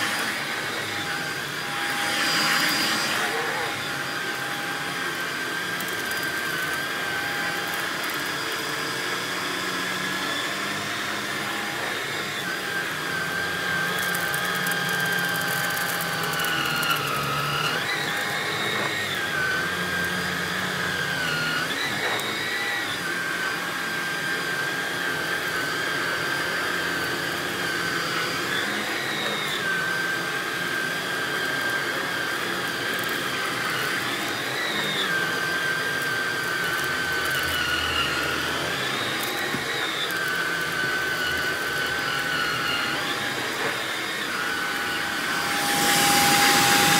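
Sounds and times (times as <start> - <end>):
stick vacuum motor whine: 0.0 - 46.9.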